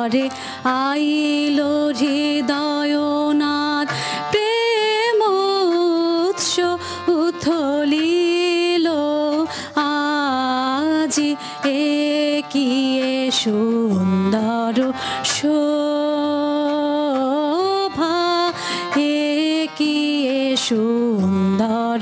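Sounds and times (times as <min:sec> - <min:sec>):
harmonium: 0:00.0 - 0:22.0
tabla: 0:00.0 - 0:22.0
woman singing: 0:00.0 - 0:22.0.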